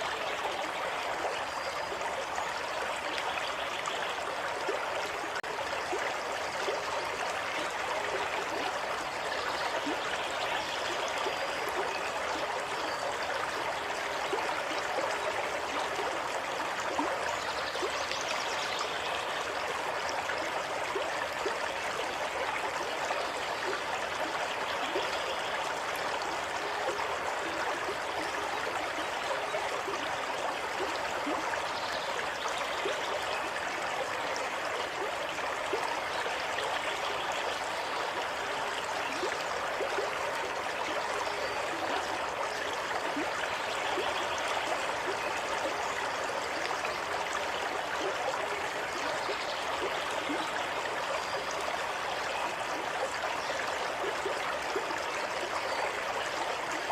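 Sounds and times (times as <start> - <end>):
stream water trickling: 0.0 - 56.9.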